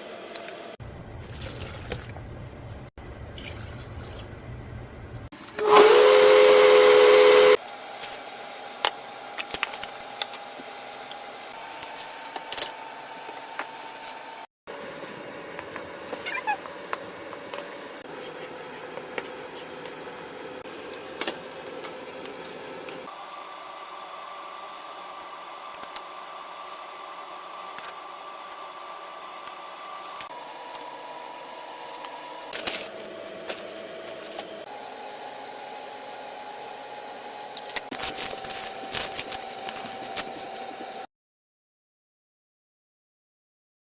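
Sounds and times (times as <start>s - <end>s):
mechanical hum: 0.0s - 41.1s.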